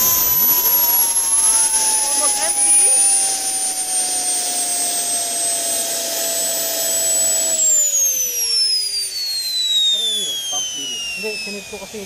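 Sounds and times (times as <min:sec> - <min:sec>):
jet turbine whine spooling down: 0:00.0 - 0:12.0.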